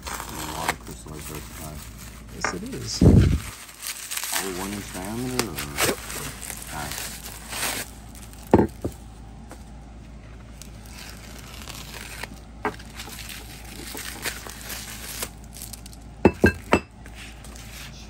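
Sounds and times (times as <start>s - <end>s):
plastic and foam wrapping rustling: 0.0s - 18.0s.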